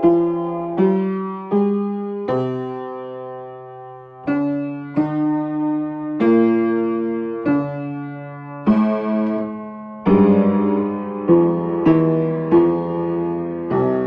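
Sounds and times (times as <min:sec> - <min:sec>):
piano playing heavy chords: 0:00.0 - 0:14.0.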